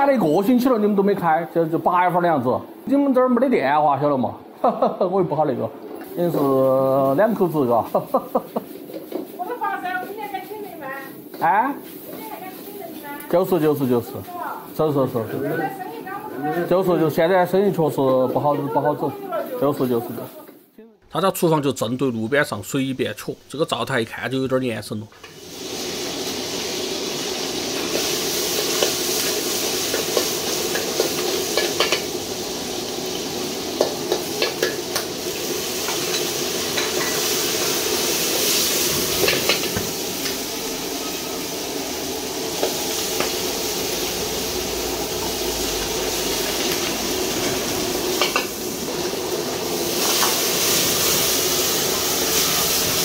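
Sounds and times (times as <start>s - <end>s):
food sizzling in hot oil: 0.0s - 20.6s, 21.4s - 53.0s.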